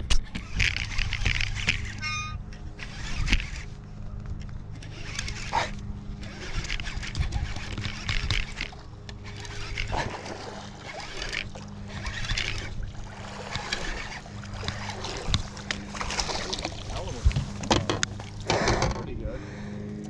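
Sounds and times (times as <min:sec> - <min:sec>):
water splashing and sloshing: 0:00.0 - 0:03.8, 0:04.6 - 0:18.9
boat engine low hum: 0:00.0 - 0:20.0.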